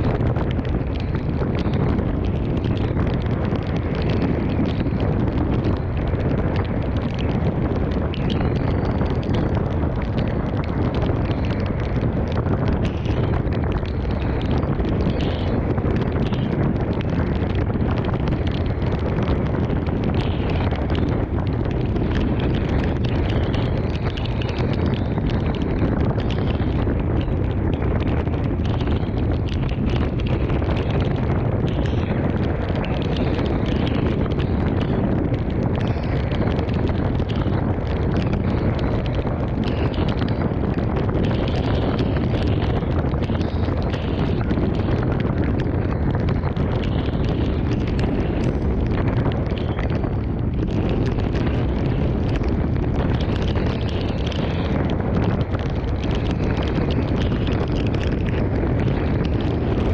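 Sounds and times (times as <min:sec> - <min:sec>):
heavy rain pattering: 0:00.0 - 0:59.9
wind blowing across microphone: 0:00.0 - 0:59.9.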